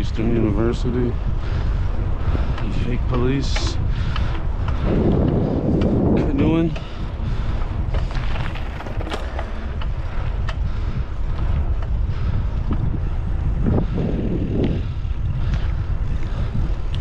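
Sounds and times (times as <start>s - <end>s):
wind buffeting microphone: 0.0s - 17.0s
bicycle clicks and rattles: 0.1s - 13.7s.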